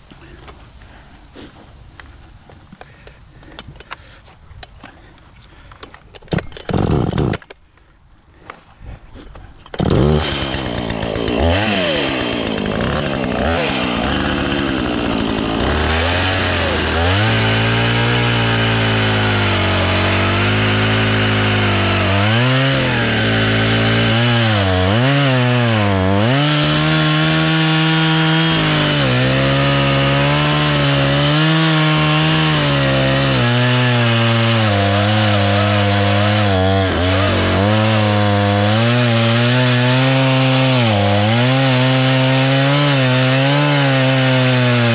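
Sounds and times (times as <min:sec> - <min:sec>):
chainsaw cutting wood: 0:06.2 - 0:07.6, 0:09.7 - 0:44.9.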